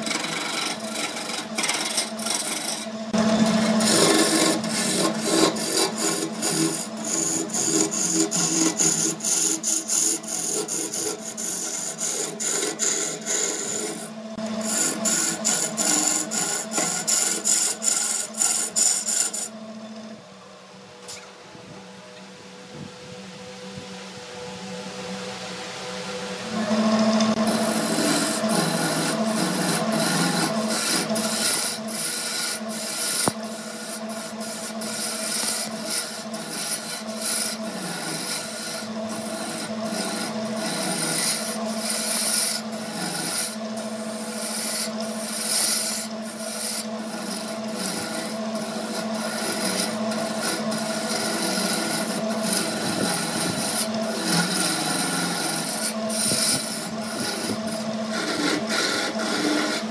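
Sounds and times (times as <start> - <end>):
turning tool scraping wood: 0.0 - 20.2, 26.6 - 59.9
wood lathe motor humming: 0.0 - 22.7, 23.4 - 59.9.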